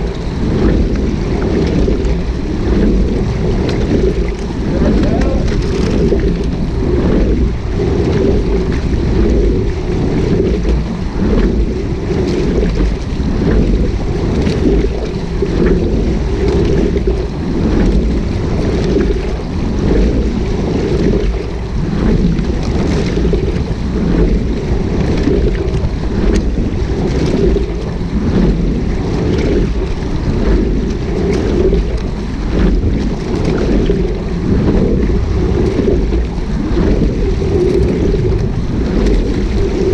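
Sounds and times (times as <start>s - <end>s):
water rushing along hull: 0.0s - 39.9s
wind rumbling on microphone: 0.0s - 39.9s.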